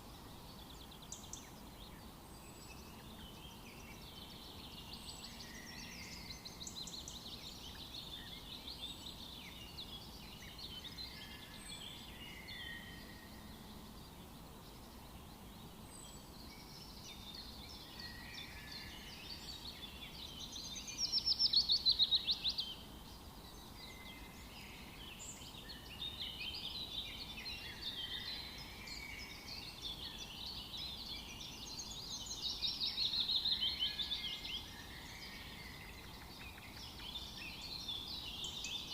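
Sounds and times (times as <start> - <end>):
songbirds singing chorus: 0.0 - 38.9.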